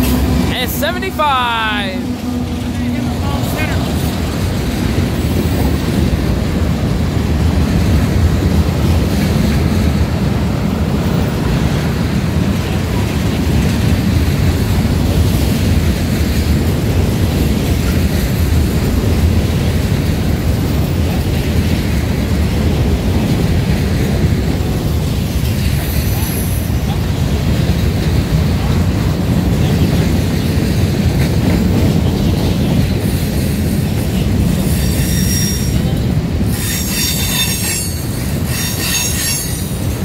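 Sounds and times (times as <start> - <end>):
freight train wheels rumbling on rail: 0.0 - 40.0.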